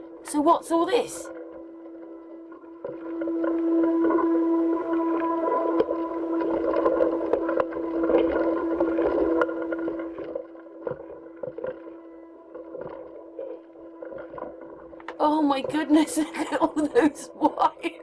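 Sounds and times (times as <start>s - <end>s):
mechanical hum with constant tone: 0.0s - 18.0s.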